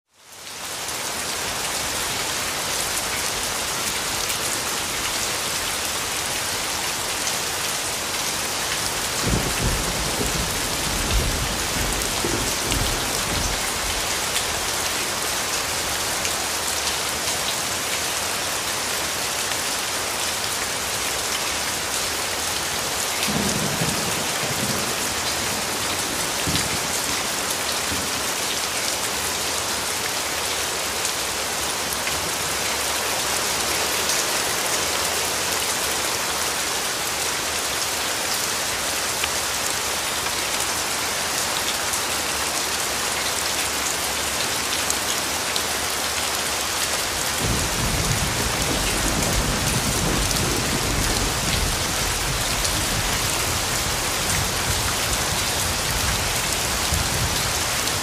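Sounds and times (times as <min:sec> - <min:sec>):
heavy rain: 0:00.1 - 0:58.0.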